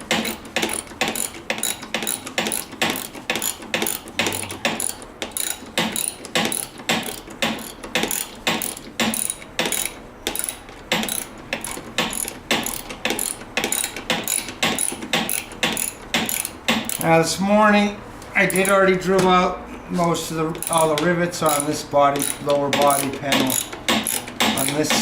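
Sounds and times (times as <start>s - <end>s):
ratchet wrench clicking: 0.1s - 17.1s, 18.5s - 18.8s, 20.6s - 25.0s.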